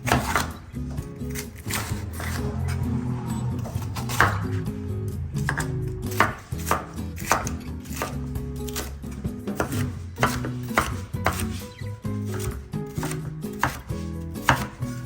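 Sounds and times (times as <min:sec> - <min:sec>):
knife chopping on cutting board: 0:00.0 - 0:02.7, 0:03.9 - 0:04.6, 0:05.4 - 0:15.0
soft background music: 0:00.0 - 0:15.0.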